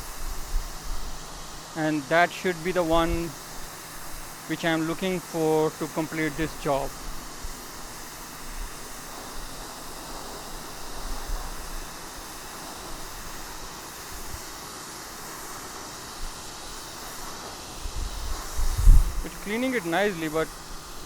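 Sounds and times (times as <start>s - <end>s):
pressure washer spraying concrete: 0.0s - 21.0s.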